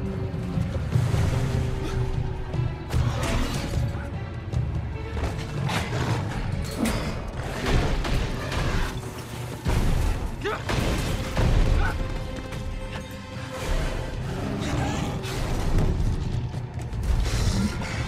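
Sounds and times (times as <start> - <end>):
action film music score: 0.0 - 18.0.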